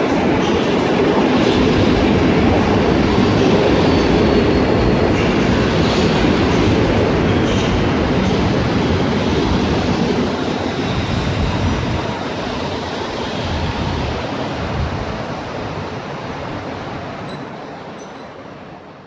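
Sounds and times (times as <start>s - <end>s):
train coaches rumbling on rails: 0.0s - 19.0s.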